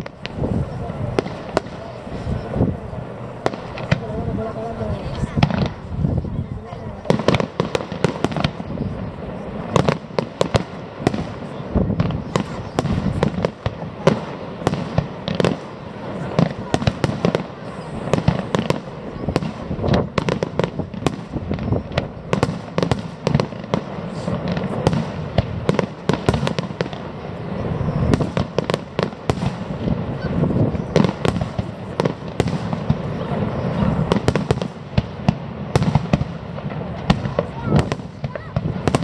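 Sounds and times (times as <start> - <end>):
continuous low rumble: 0.0 - 35.7
fireworks bangs and crackles: 0.0 - 39.0.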